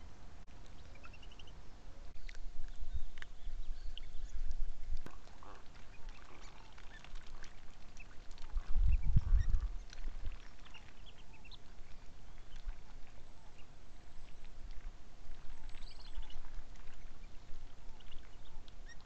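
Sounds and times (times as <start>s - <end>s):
ducks and waterbirds calling: 0.0s - 19.0s.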